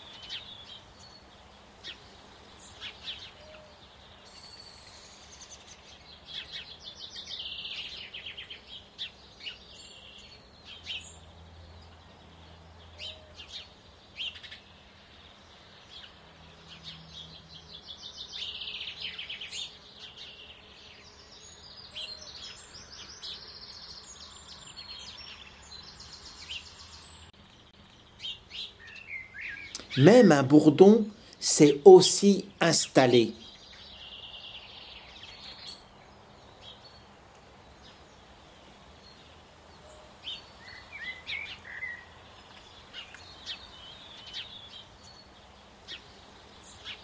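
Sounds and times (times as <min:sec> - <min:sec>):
songbirds trilling: 0:00.0 - 0:47.0.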